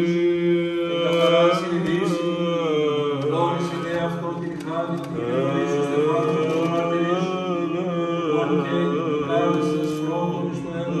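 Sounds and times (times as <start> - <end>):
man chanting ornamented melody: 0.0 - 11.0.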